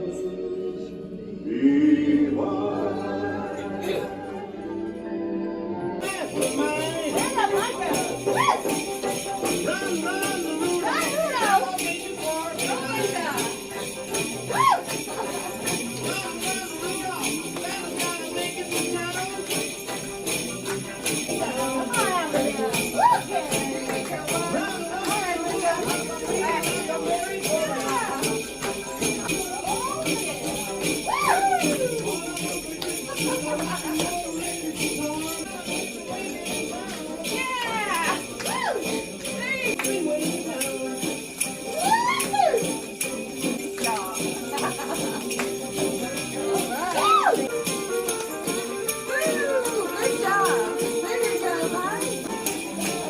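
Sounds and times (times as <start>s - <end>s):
people singing: 0.0s - 53.0s
small bells shaken by hand: 6.0s - 53.0s.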